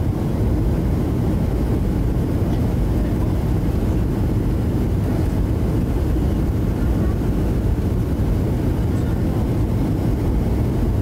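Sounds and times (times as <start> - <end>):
low rumble of moving vehicle: 0.0 - 11.0.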